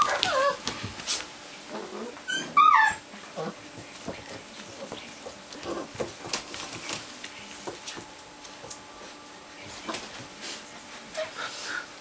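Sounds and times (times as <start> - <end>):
puppies pattering on wooden floor: 0.0 - 1.4, 3.3 - 11.8.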